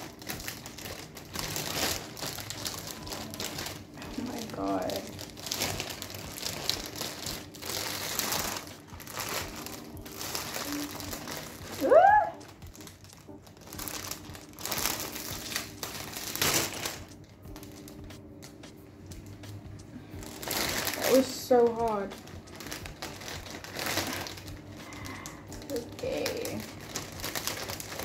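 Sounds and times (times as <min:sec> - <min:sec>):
plastic sleeve crinkling: 0:00.0 - 0:28.0.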